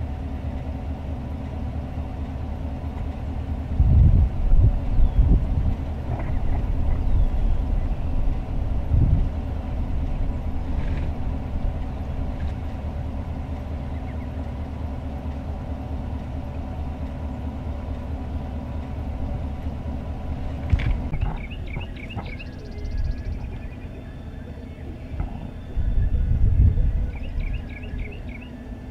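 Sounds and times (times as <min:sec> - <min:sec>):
vehicle engine idling: 0:00.0 - 0:28.9.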